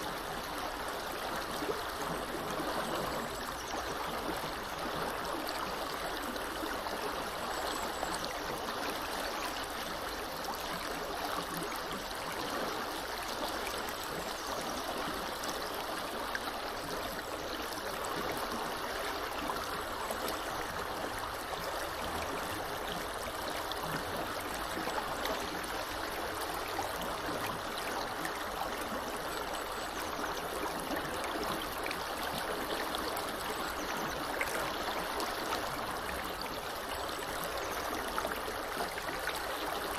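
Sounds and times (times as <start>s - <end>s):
small river rushing and burbling: 0.0s - 39.9s.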